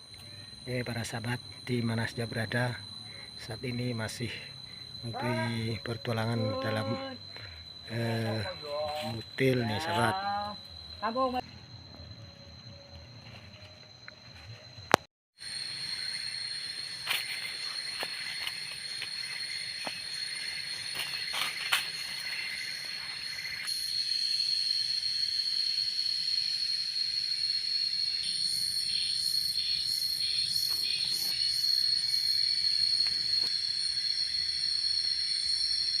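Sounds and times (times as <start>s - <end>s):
insects buzzing: 0.0s - 36.0s
rhythmic insect chirping: 0.0s - 36.0s.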